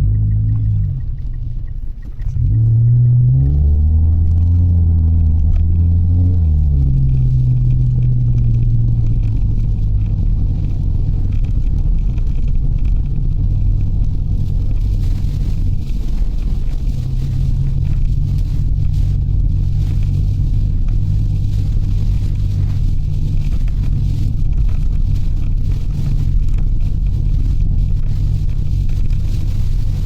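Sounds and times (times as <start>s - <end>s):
road rumble: 0.0s - 30.0s
van engine hum: 0.0s - 30.0s.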